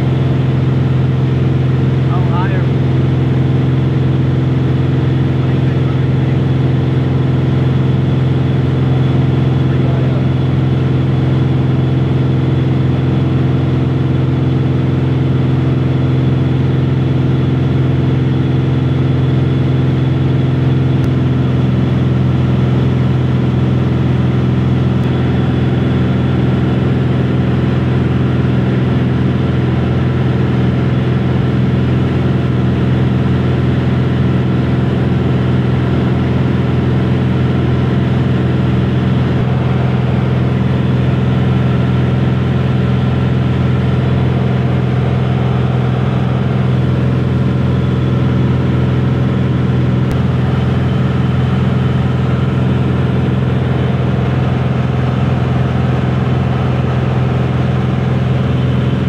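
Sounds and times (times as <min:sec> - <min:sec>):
airplane engine drone: 0:00.0 - 0:59.0.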